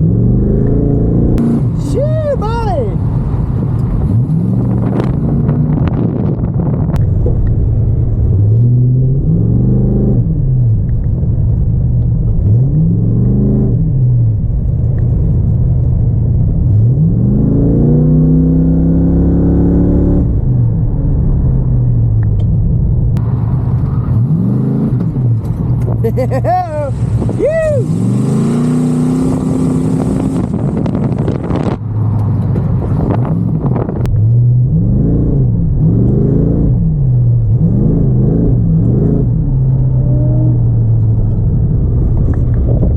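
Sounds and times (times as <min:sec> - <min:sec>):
car engine revving: 0:00.0 - 0:02.1, 0:03.0 - 0:42.9
road and wind noise: 0:00.0 - 0:42.9.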